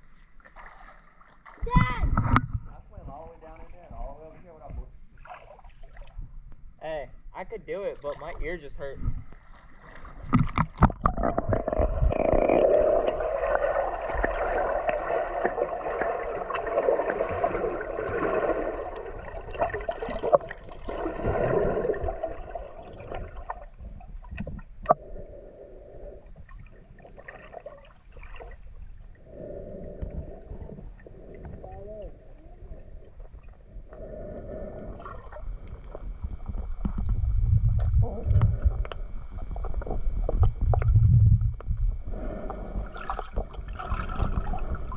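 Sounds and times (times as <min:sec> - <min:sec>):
underwater gurgling and sloshing: 0:00.0 - 0:44.9.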